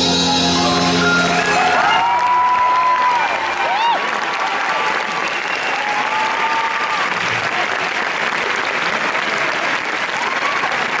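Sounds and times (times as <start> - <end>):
crowd cheering: 0.4 - 11.0
audience applauding: 1.4 - 11.0.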